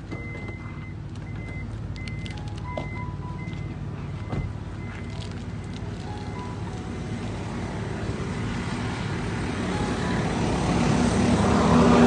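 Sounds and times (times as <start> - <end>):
tire road noise: 0.0 - 12.0
vehicle engine hum: 0.0 - 12.0.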